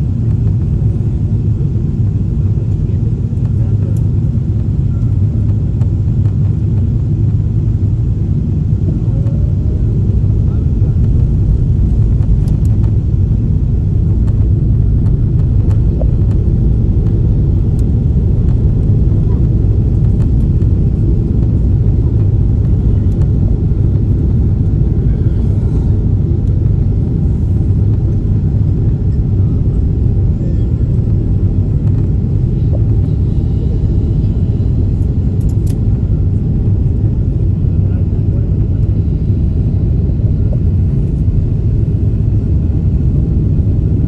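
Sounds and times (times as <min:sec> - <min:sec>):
jet engine rumble: 0:00.0 - 0:44.0
rushing air in cabin: 0:00.0 - 0:44.0.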